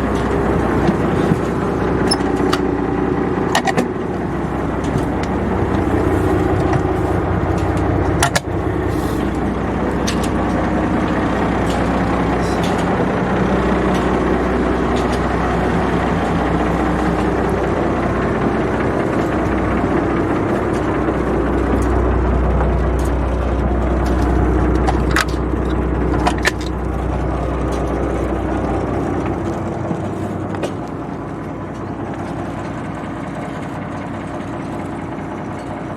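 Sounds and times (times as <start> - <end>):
boat engine low hum: 0.0 - 35.9.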